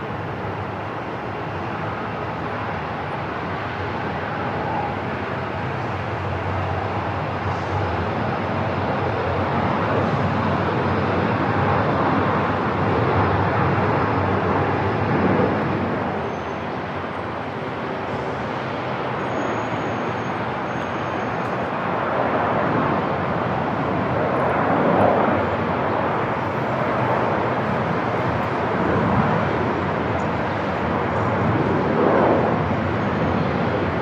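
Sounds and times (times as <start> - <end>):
airport ambience: 0.0 - 34.0.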